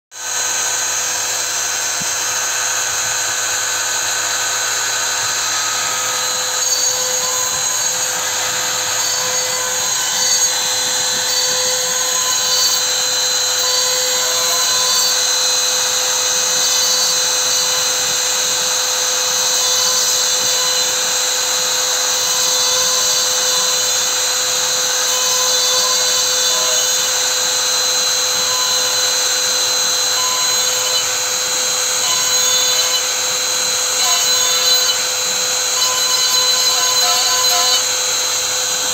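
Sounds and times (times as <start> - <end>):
router spindle whining: 0.1 - 38.9
bit cutting into acrylic: 1.8 - 38.9.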